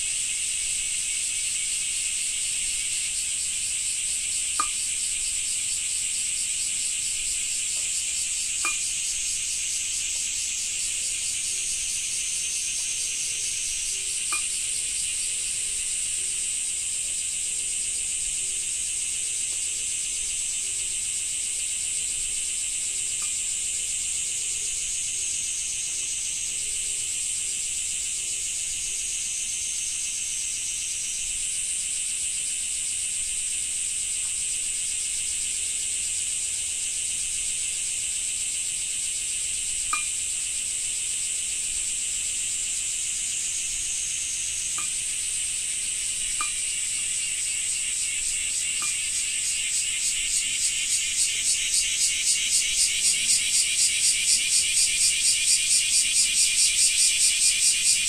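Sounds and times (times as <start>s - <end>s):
cicadas singing: 0.0s - 58.0s.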